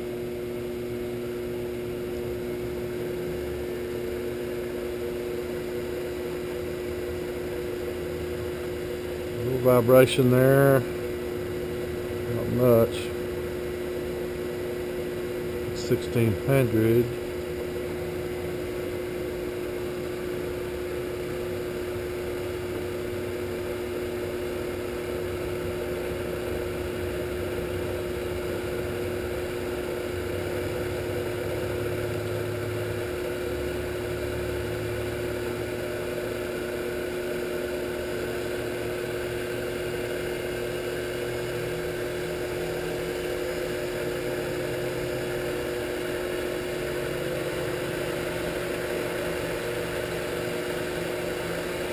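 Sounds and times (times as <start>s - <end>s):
electric motor humming: 0.0s - 51.9s.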